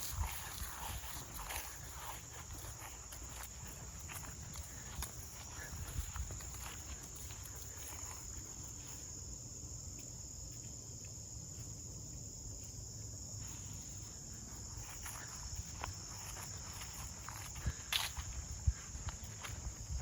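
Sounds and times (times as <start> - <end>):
crickets chirring: 0.0 - 20.0
soft footsteps on trail: 0.0 - 20.0.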